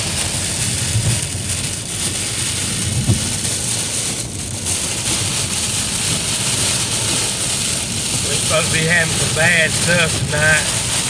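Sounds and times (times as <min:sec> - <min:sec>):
heavy rain on car: 0:00.0 - 0:11.0
tyre and road noise: 0:00.0 - 0:11.0.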